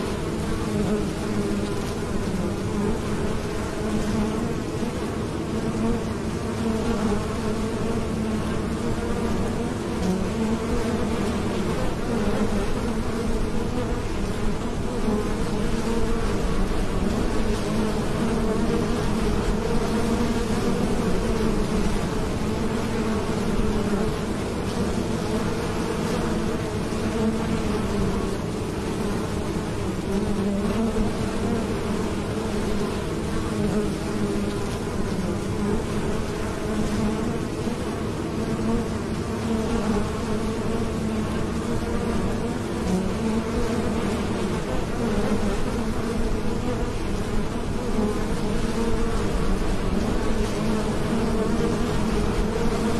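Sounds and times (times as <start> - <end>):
honeybees buzzing: 0.0 - 52.9.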